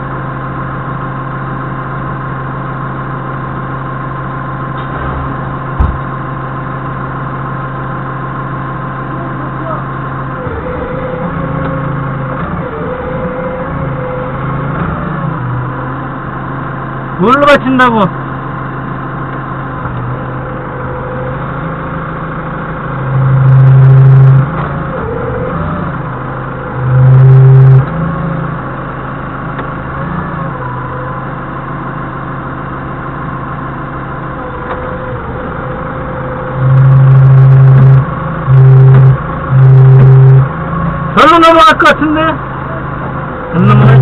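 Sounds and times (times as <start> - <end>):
forklift engine idling and revving: 0.0 - 44.0.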